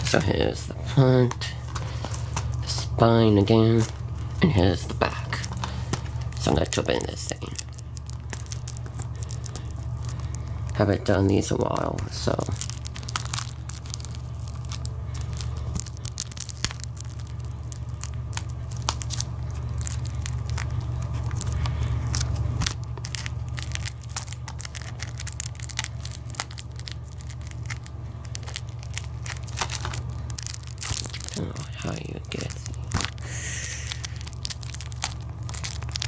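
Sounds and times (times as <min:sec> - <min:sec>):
steady low hum: 0:00.0 - 0:36.0
plastic wrap crinkling and tearing: 0:01.2 - 0:36.0.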